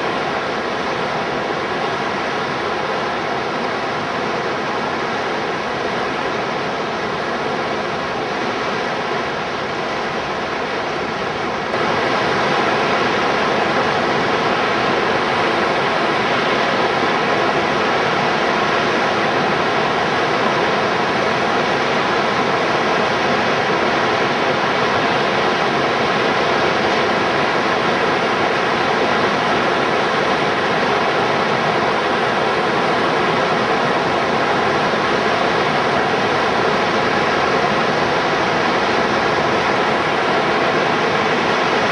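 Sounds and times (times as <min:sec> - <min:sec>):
whitewater rushing: 0:00.0 - 0:41.9.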